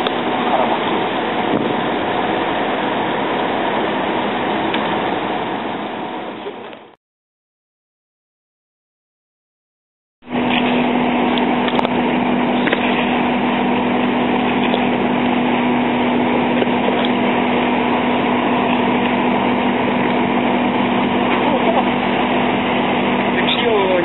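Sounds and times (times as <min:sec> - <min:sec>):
engine droning: 0:00.0 - 0:07.0, 0:10.2 - 0:24.0.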